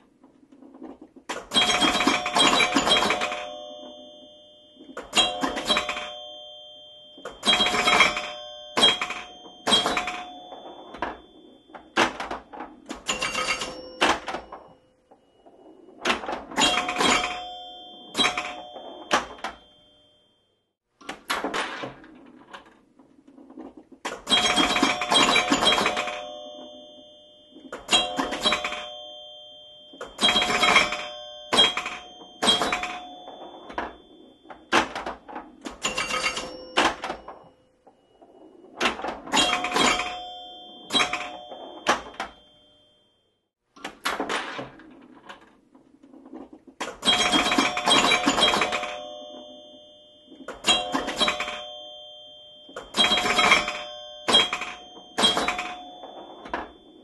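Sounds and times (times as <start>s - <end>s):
pinball machine clacks and knocks: 0.0s - 20.1s, 21.0s - 42.9s, 43.7s - 57.0s
ringing bell tones: 1.5s - 20.6s, 24.3s - 43.4s, 47.0s - 57.0s.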